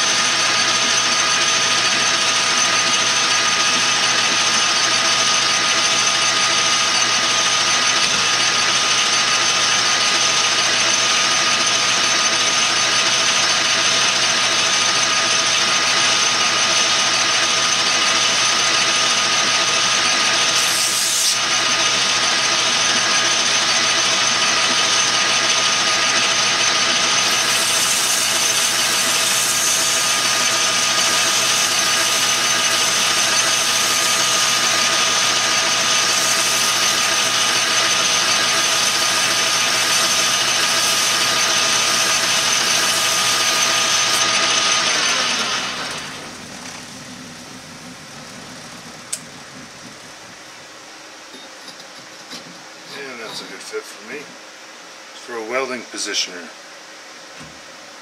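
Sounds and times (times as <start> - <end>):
metal lathe whining: 0.0 - 50.4
motor hum: 0.0 - 52.4.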